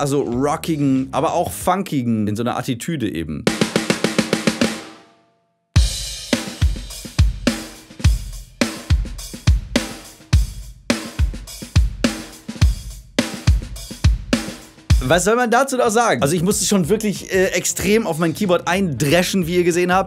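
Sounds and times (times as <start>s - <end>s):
drum kit groove: 0.0s - 1.8s, 3.4s - 5.0s, 5.8s - 20.0s.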